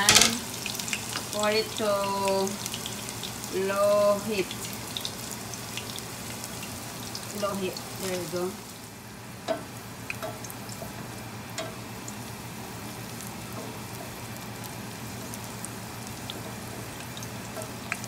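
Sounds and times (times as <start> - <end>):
garlic sizzling in oil: 0.0 - 18.0.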